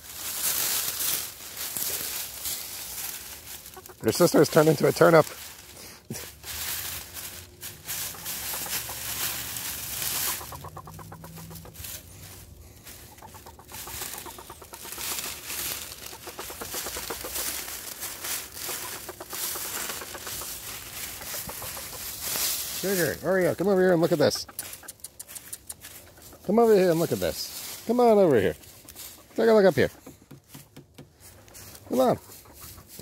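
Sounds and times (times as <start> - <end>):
dry leaves rustling and crackling: 0.0 - 33.0
hen clucking low: 1.2 - 30.2, 31.6 - 33.0.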